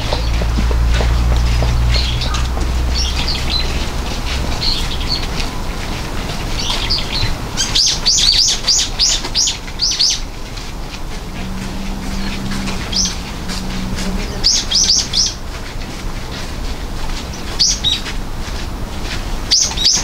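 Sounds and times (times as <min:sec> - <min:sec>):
songbird chirping: 0:00.0 - 0:18.2.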